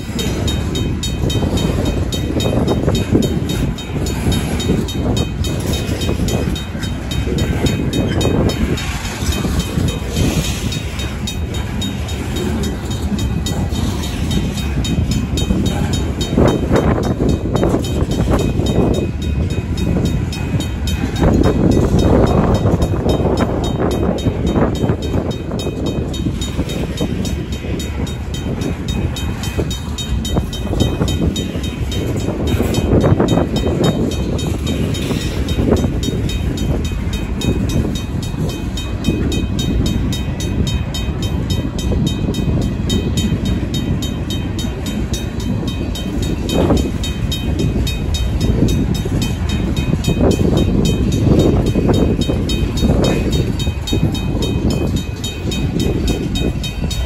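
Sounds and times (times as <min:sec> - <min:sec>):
crossing bell ringing: 0:00.0 - 0:57.0
freight train wheels rumbling: 0:00.0 - 0:57.0.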